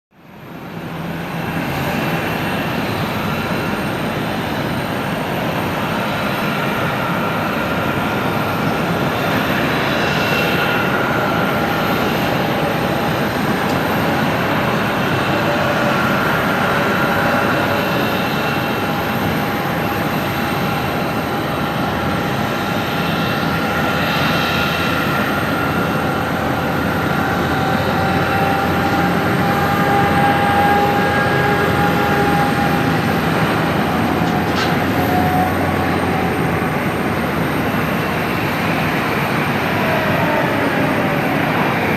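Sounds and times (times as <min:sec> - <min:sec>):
jet engine rumble: 0:00.2 - 0:41.9
whining engine tones: 0:06.6 - 0:41.9.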